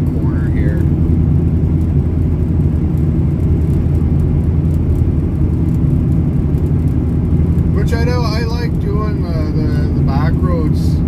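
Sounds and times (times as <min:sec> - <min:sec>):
truck engine drone: 0:00.0 - 0:11.0.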